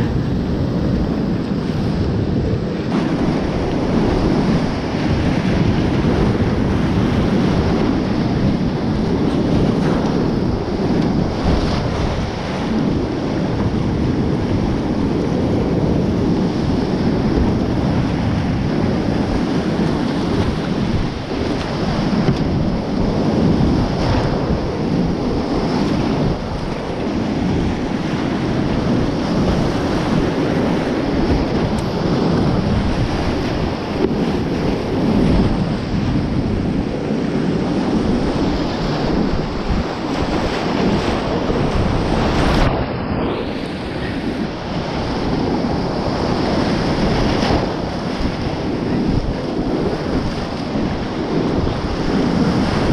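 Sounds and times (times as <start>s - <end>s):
water splashing against boat: 0.0s - 52.9s.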